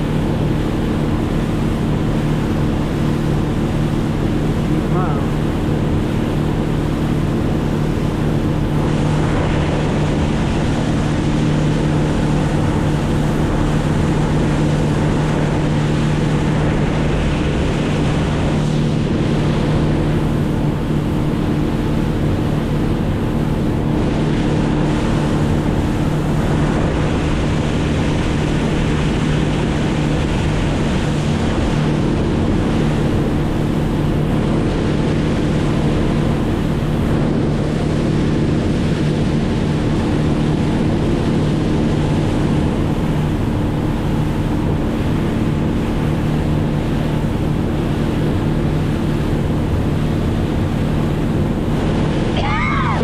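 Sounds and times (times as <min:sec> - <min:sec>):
boat motor droning: 0:00.0 - 0:53.0
rushing water: 0:00.0 - 0:53.0
wind noise on microphone: 0:00.0 - 0:53.0.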